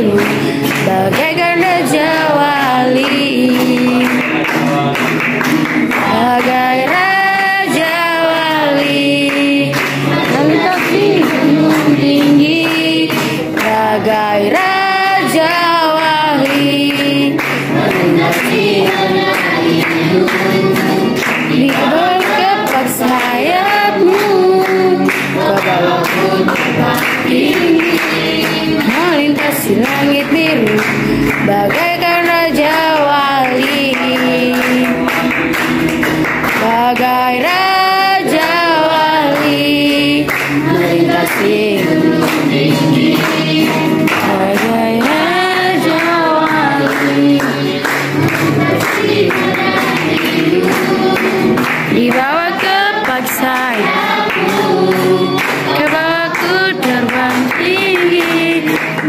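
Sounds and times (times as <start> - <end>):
group singing worship song: 0.0 - 59.0
hand clapping: 0.0 - 59.0
strummed acoustic guitar: 0.0 - 59.0.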